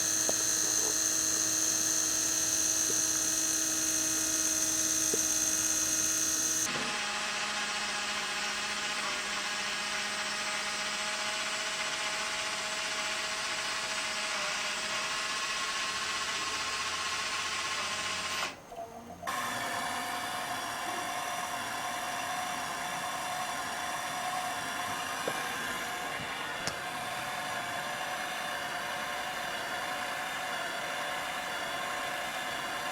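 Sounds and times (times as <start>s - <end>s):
small electric motors and gears whirring: 0.0s - 32.9s.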